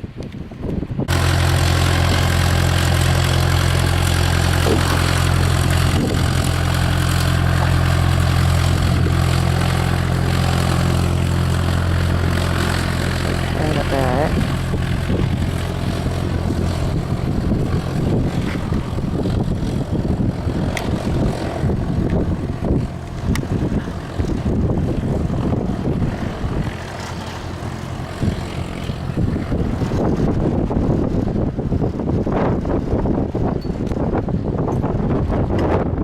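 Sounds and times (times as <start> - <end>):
propeller aircraft engines droning: 0.0 - 36.0.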